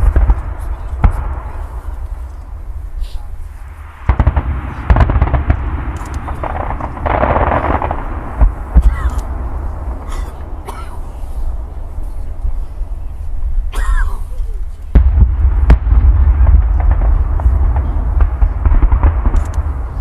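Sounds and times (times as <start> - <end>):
fireworks bangs: 0.0 - 13.7, 14.6 - 20.0
fireworks crackling: 0.0 - 13.7, 14.3 - 20.0
steady low rumble: 0.0 - 20.0.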